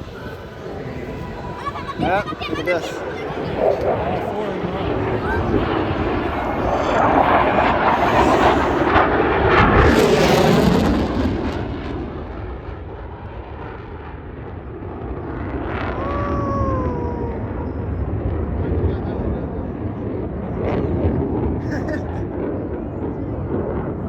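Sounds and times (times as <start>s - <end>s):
jet roaring past: 0.0s - 24.0s.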